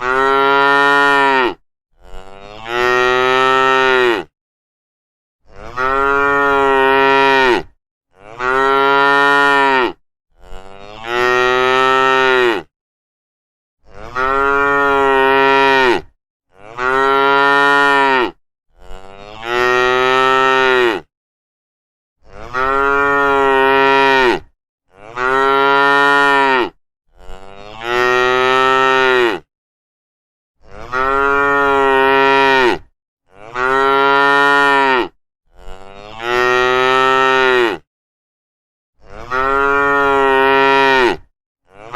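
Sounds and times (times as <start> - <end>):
cows mooing: 0.0 - 4.3, 5.5 - 12.7, 13.9 - 21.1, 22.3 - 29.5, 30.7 - 37.8, 39.1 - 41.9.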